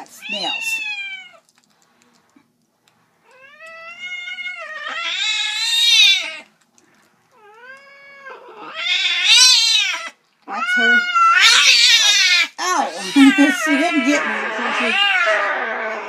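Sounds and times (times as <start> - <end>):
cat yowling: 0.2 - 1.4, 3.3 - 6.5, 7.4 - 16.0.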